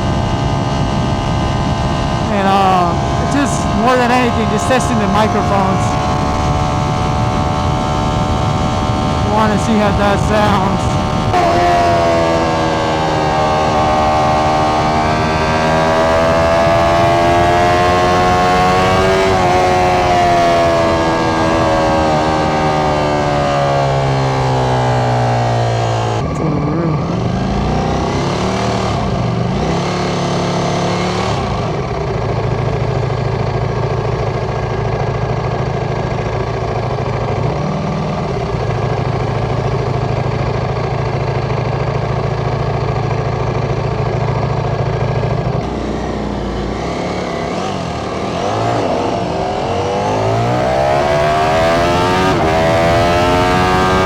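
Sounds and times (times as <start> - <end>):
motorcycle engine revving: 2.9 - 4.8, 5.9 - 9.3, 10.8 - 54.0.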